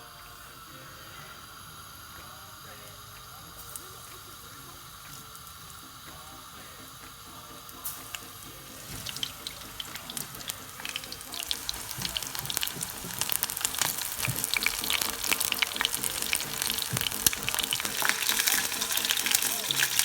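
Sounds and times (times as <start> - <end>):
food deep-frying in hot oil: 0.0 - 20.0.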